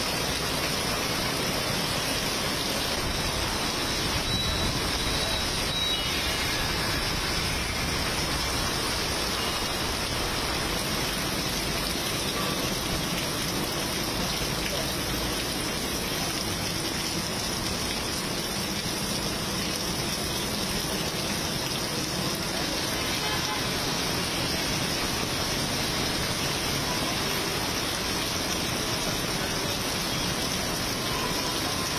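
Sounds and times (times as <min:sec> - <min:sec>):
heavy rain on pavement: 0:00.0 - 0:31.9.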